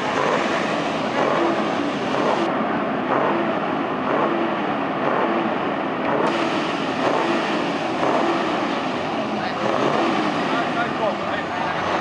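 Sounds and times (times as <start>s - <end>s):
truck diesel engines revving: 0.0s - 12.0s.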